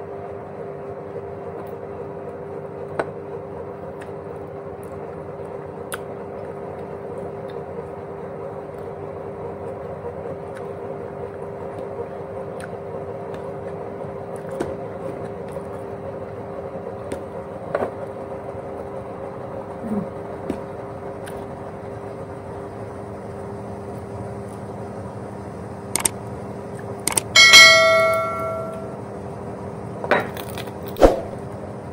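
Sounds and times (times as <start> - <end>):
steady mechanical hum: 0.0 - 31.9.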